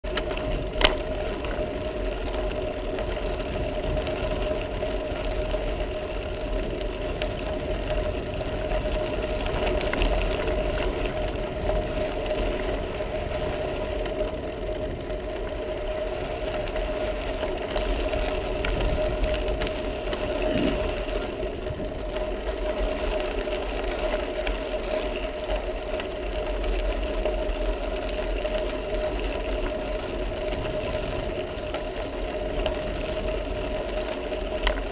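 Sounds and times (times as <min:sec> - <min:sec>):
bicycle tyres rumbling on gravel: 0:00.0 - 0:34.9.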